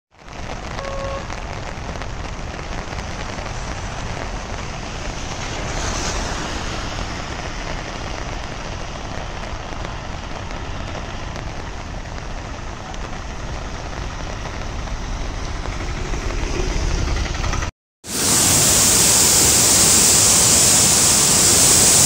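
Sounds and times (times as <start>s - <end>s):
heavy rain pouring: 0.2s - 22.0s.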